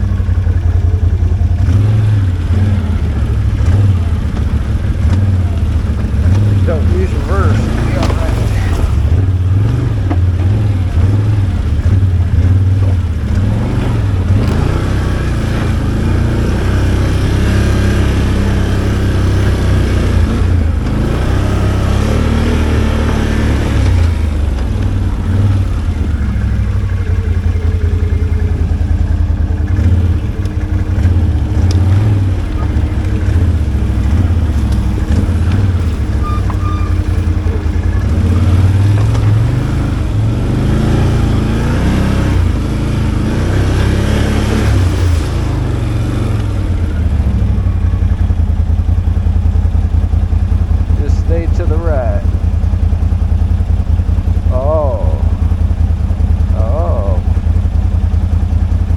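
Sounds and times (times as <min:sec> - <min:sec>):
atv engine revving: 0:00.0 - 0:58.9.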